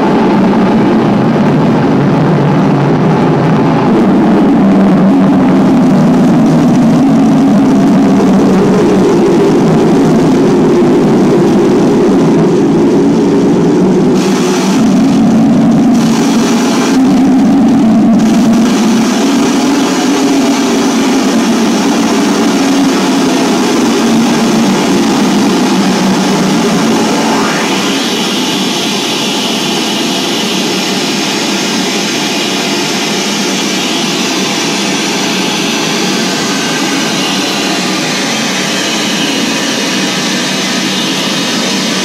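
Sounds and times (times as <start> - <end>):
loud electronic drone: 0.0 - 42.0.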